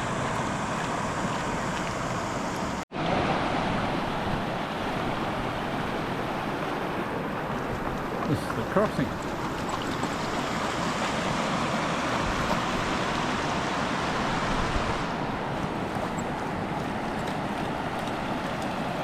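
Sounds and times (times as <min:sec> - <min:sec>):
river water rushing over rocks: 0:00.0 - 0:19.0
wind rumbling on microphone: 0:00.0 - 0:19.0.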